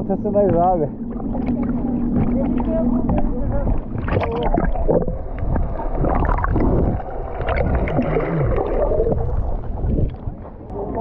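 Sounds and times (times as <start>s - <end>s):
sea water gurgling and sloshing: 0.0s - 11.0s.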